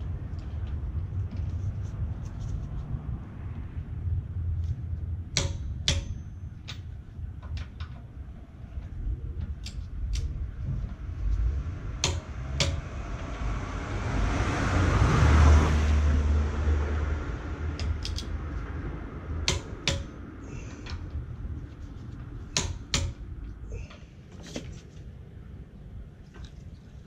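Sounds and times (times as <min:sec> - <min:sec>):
broad rush with low rumble: 0:00.0 - 0:27.0.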